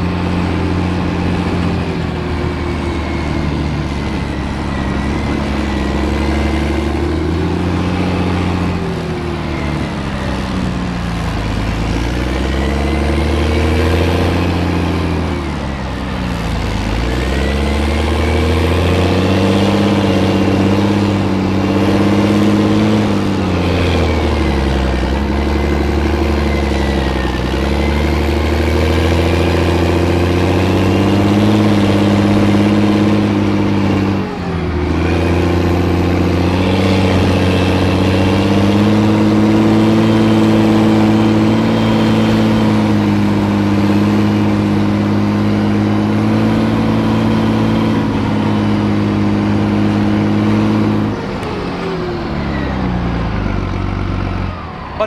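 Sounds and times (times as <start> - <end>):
armoured vehicle engine running: 0.0 - 55.0.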